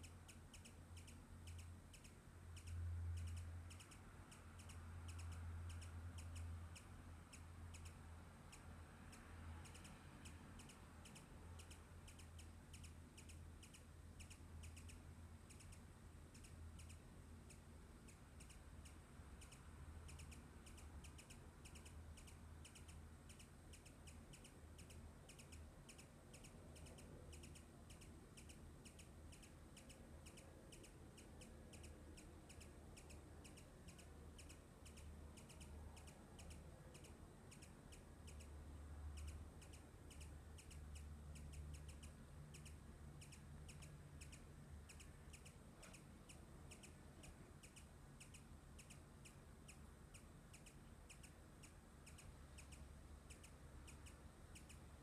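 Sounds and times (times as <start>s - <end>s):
faint high chirps: 0.0s - 55.0s
low steady hum: 0.0s - 55.0s.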